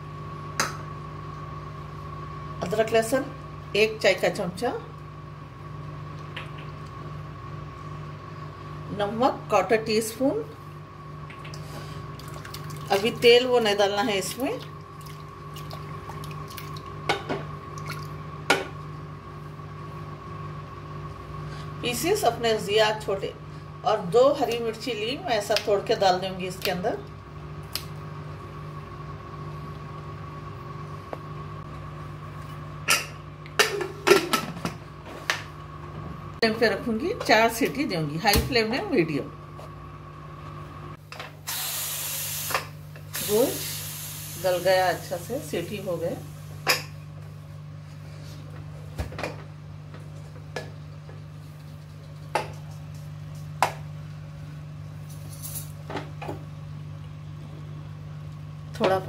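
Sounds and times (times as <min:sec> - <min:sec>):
mechanical hum: 0:00.0 - 0:59.0.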